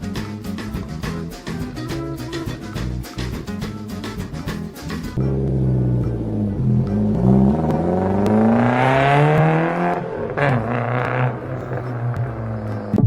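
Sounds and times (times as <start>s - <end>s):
engine revving: 1.6s - 13.0s.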